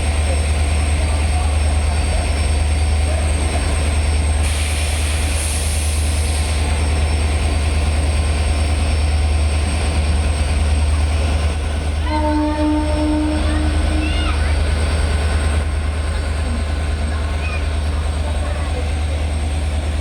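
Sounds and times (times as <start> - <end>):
diesel locomotive engine humming: 0.0 - 20.0.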